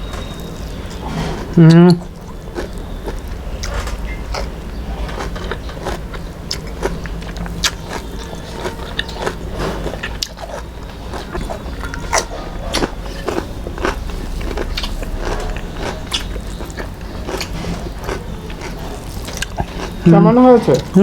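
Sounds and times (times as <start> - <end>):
chewing with mouth clicks: 0.0 - 21.0
steady low hum: 0.0 - 21.0.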